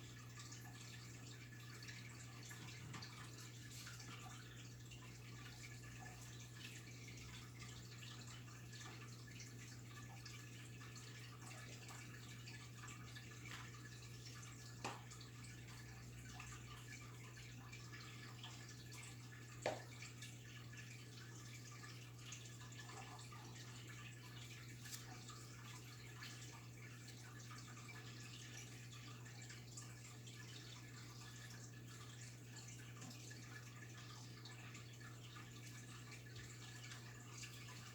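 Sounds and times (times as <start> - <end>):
aquarium pump hum: 0.0 - 37.9
water trickling and dripping: 0.0 - 37.9.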